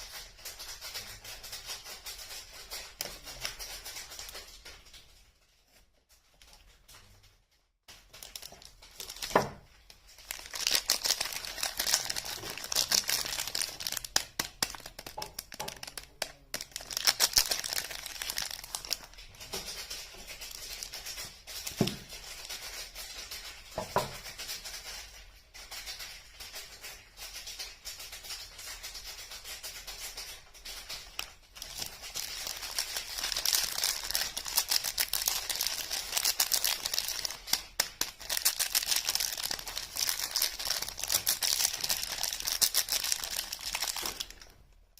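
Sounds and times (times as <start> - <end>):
wrapping crinkling and tearing: 7.9 - 44.9.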